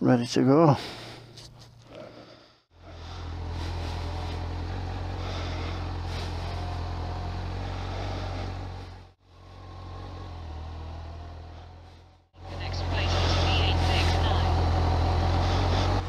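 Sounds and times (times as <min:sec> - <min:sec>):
wind and road noise: 0:01.0 - 0:16.0
motorcycle engine running: 0:02.8 - 0:16.0.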